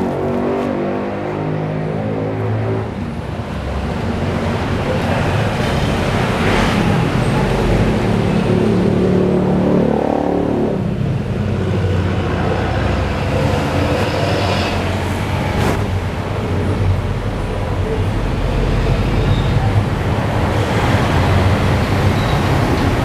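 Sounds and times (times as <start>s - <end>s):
passing vehicles rumbling: 0.0s - 23.0s.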